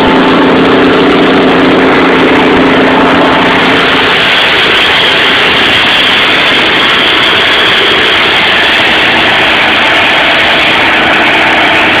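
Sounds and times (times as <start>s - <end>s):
diesel generator engine running: 0.0s - 12.0s.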